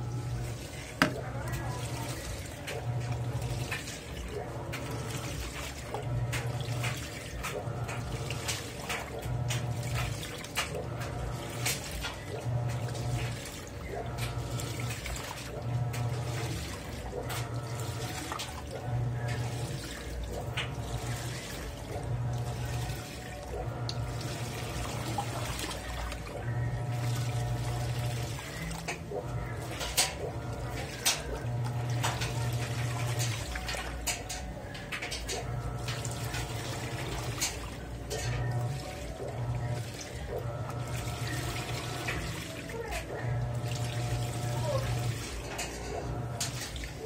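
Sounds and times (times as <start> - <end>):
washing machine motor hum: 0.0 - 47.0
water and wet clothes sloshing: 0.0 - 47.0.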